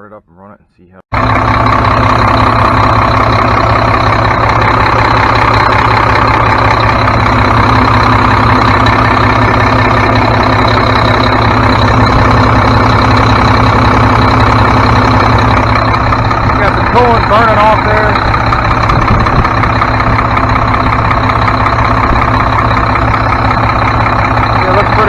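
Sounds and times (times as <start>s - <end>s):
diesel truck engine idling: 1.1s - 25.0s
high turbo whine: 1.1s - 25.0s.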